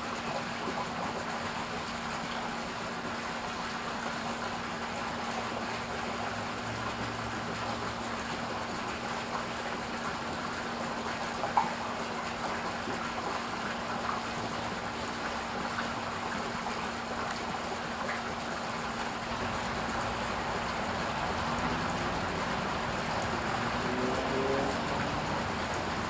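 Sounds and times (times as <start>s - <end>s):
fountain water trickling: 0.0s - 26.0s.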